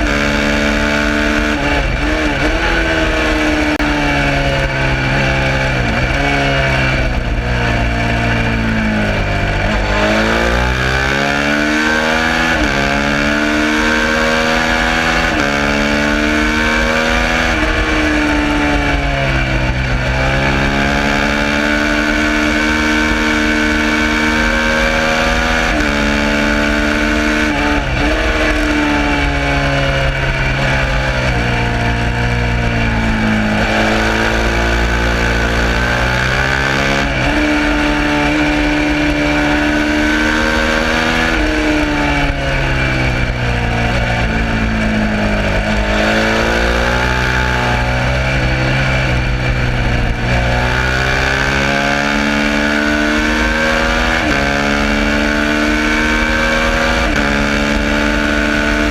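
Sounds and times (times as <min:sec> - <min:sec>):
motorcycle engine revving through gears: 0:00.0 - 0:58.9
steady rushing noise: 0:00.0 - 0:58.9.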